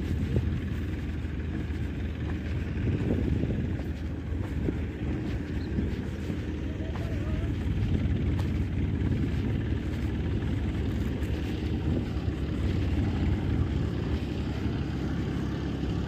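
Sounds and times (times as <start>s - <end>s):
thresher running: 0.0s - 16.0s.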